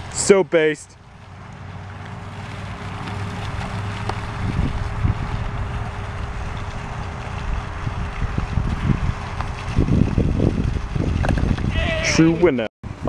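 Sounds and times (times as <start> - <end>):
wind buffeting microphone: 2.3 - 13.0.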